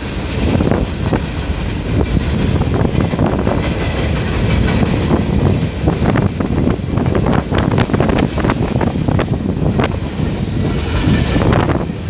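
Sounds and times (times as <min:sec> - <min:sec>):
train wheels rumbling on rail: 0:00.0 - 0:12.0
wheels clacking over rail joints: 0:00.0 - 0:12.0.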